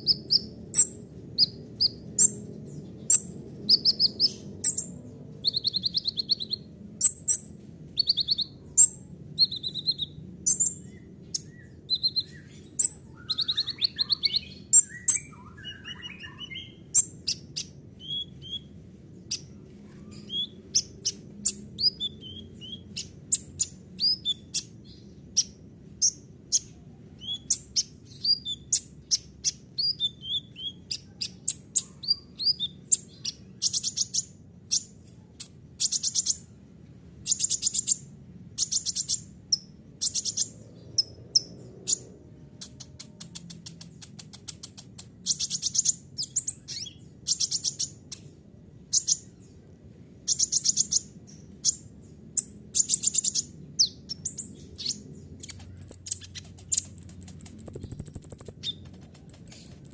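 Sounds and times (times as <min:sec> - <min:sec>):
sunbird singing: 0:00.0 - 0:36.6, 0:37.2 - 0:59.9
faint low hum: 0:00.0 - 0:59.9.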